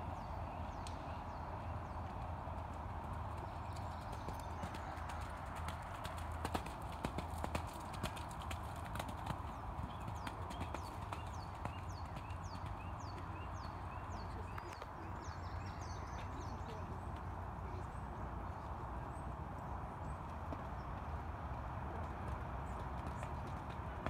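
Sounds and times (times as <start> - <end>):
hooves cantering on sand: 0.0 - 24.0.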